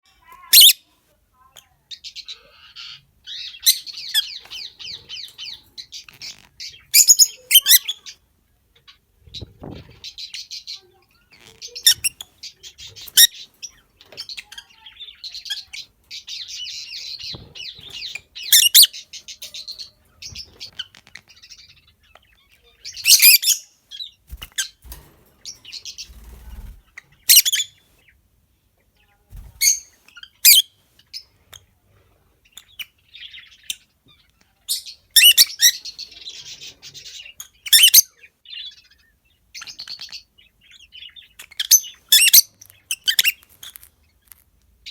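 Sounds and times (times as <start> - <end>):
lovebirds chirping and chattering: 0.1 - 44.9.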